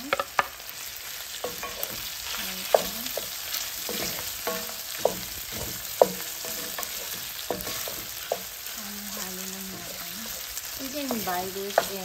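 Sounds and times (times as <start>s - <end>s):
wooden spoon knocking on pan: 0.0s - 0.6s, 1.4s - 12.0s
food sizzling in oil: 0.0s - 12.0s.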